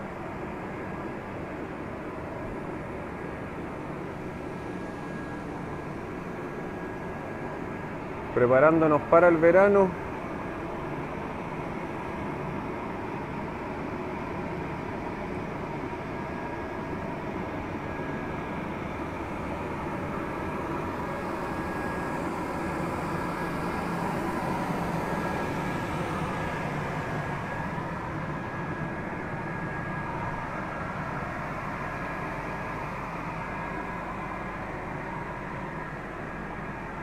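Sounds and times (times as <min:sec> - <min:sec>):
electric blower fan hum: 0:00.0 - 0:37.0.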